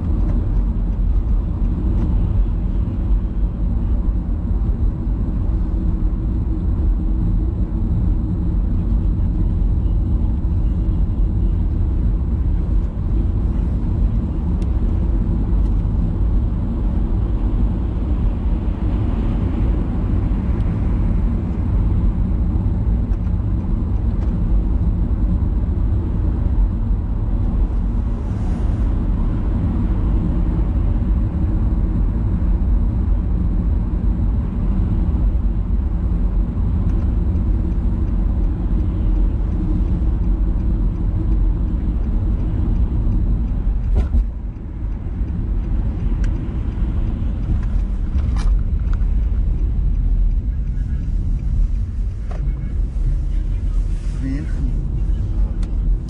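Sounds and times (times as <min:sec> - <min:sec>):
vehicle rumble: 0:00.0 - 0:56.0.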